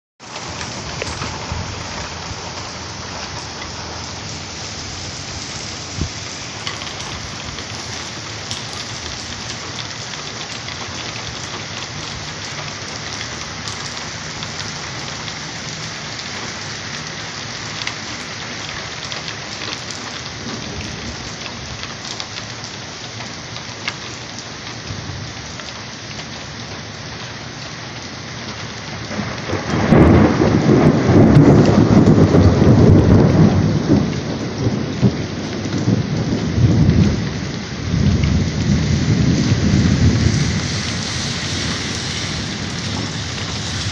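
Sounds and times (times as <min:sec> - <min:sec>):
thunder rumble: 0:00.2 - 0:22.8, 0:24.8 - 0:25.8, 0:28.8 - 0:43.9
steady rain: 0:00.2 - 0:43.9.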